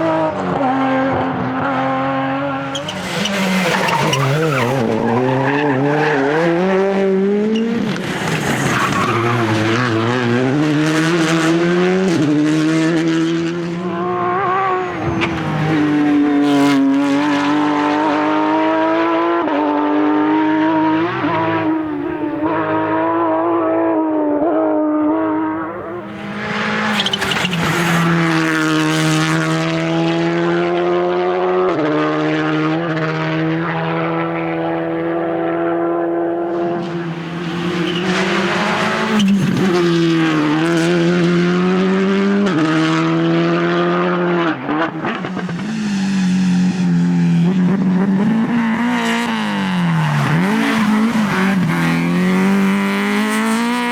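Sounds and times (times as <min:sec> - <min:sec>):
rally car engine at full throttle: 0:00.0 - 0:53.9.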